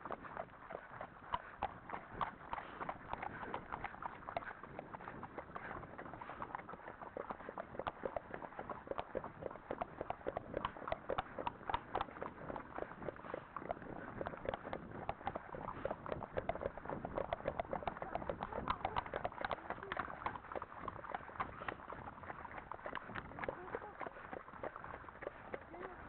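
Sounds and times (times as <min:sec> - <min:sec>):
horse hooves clip-clopping on dirt: 0:00.0 - 0:26.0.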